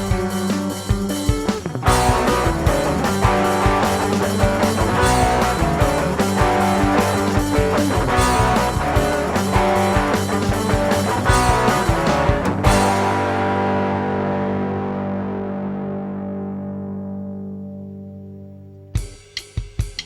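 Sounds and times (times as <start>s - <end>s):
rock band playing: 0.0s - 17.4s.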